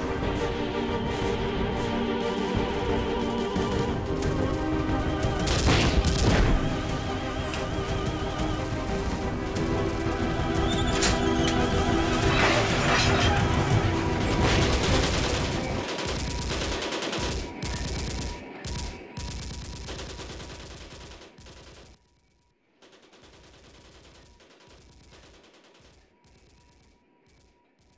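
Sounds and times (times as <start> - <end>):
rapid gunfire: 1.1 - 10.8, 12.0 - 27.9.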